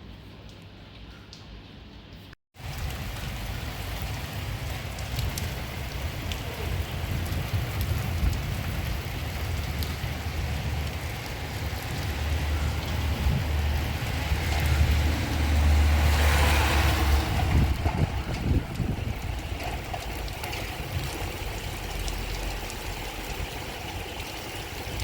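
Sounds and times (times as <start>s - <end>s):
rain falling: 2.6s - 25.0s
low rumble: 2.7s - 23.6s.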